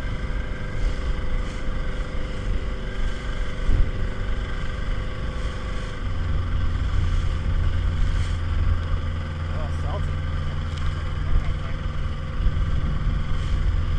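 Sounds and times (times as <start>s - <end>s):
outboard engine running: 0.0s - 13.9s.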